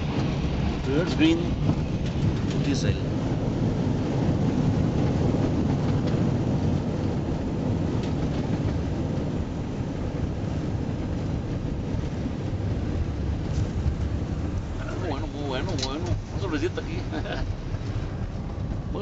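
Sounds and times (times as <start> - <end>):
wheels rolling on runway: 0.0 - 19.0.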